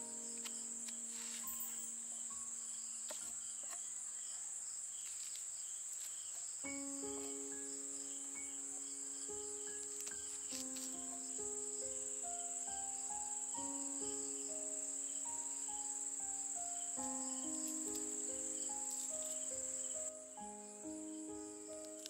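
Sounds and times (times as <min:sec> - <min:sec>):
soft background music: 0:00.0 - 0:03.8, 0:06.6 - 0:22.0
insects chirring: 0:00.0 - 0:22.0.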